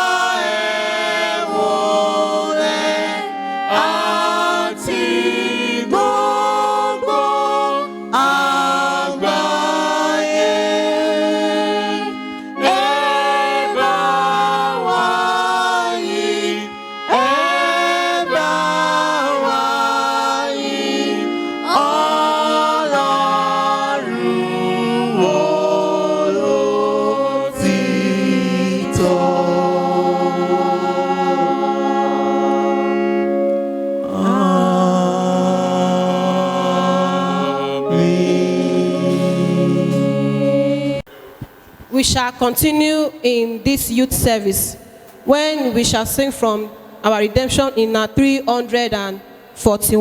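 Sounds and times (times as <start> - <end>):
youth choir singing a hymn: 0.0 - 41.1.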